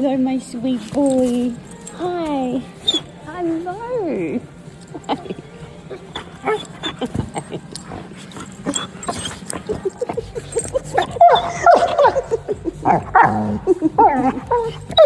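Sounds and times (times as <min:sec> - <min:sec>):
puppy whimpering and yipping: 0:01.8 - 0:03.2, 0:04.2 - 0:15.0.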